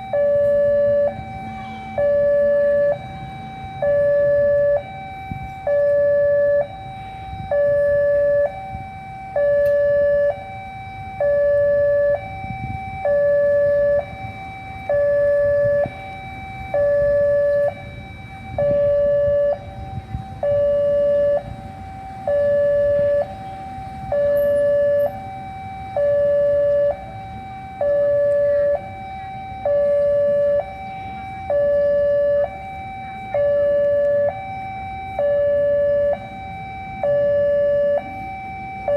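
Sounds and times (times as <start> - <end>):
level crossing two-tone alarm: 0.0 - 38.9
low rumble of traffic: 0.0 - 38.9.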